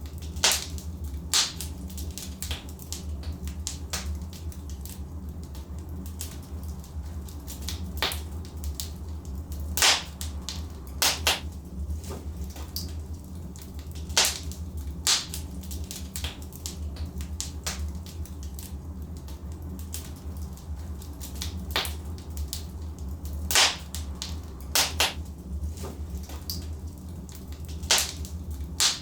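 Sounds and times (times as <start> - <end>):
fire crackles and pops: 0.0 - 29.0
low fire rumble: 0.0 - 29.0.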